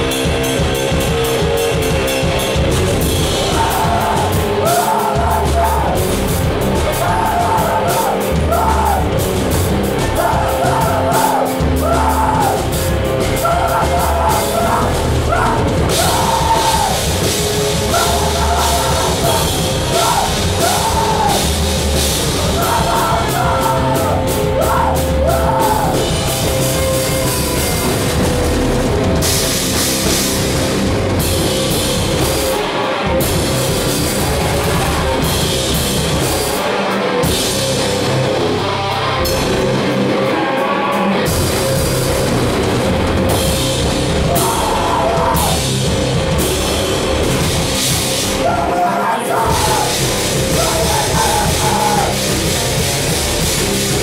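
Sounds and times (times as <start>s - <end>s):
drum kit with dense cymbals: 0.0s - 48.8s, 49.4s - 54.0s
electric guitar: 0.0s - 54.0s.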